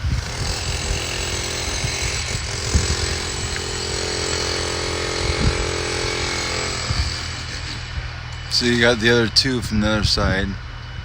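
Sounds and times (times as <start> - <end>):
demolition machinery running: 0.0 - 10.7.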